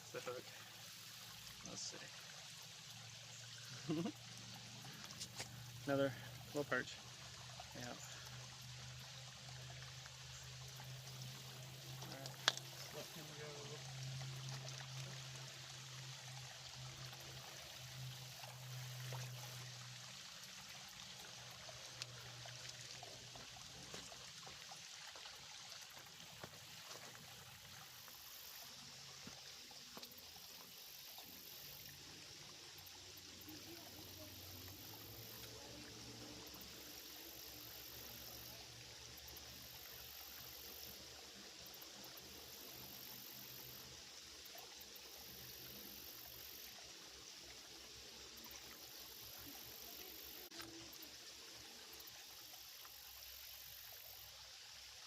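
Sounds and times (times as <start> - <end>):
creek trickling: 0.0 - 55.0.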